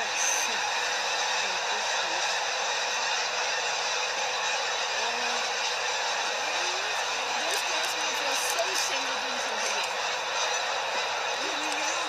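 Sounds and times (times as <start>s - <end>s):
geese calling: 0.0s - 12.0s
massed geese wingbeats: 0.0s - 12.0s.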